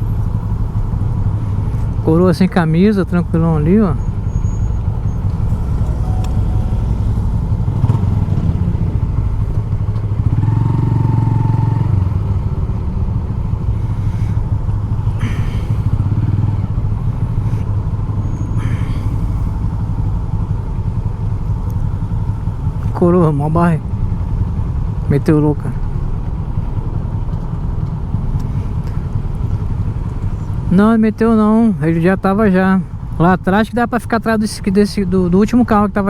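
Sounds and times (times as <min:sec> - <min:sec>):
motorcycle engine rumbling: 0:00.0 - 0:35.9.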